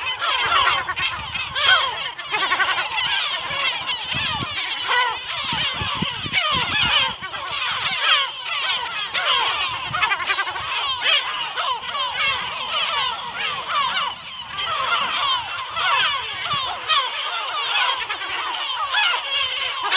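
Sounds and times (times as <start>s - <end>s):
gulls crying: 0.0s - 19.9s.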